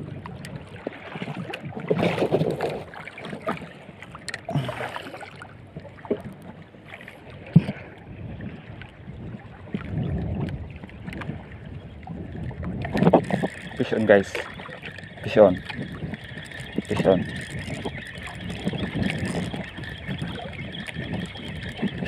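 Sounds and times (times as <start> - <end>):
wind on microphone: 0.0 - 3.7, 7.2 - 22.0
water sloshing against boat hull: 0.0 - 22.0.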